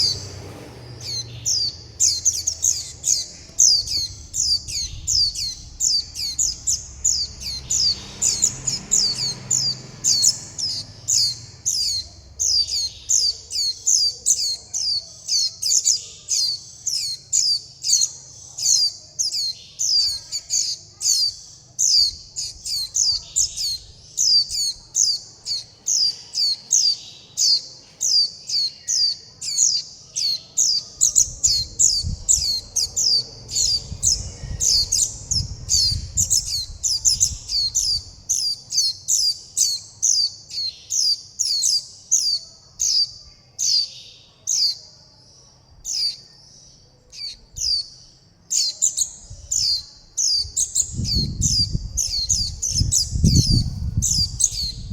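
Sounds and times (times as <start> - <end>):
fledgling birds begging calls: 0.0 - 45.0, 45.7 - 54.9.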